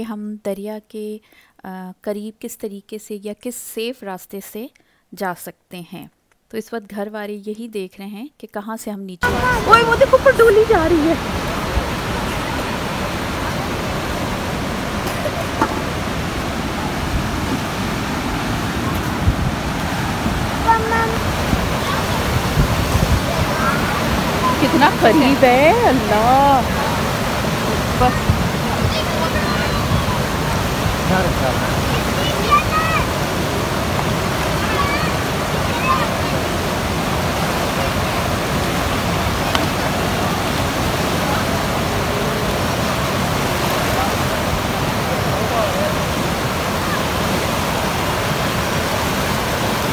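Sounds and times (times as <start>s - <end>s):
river rushing over stones: 9.2s - 49.9s.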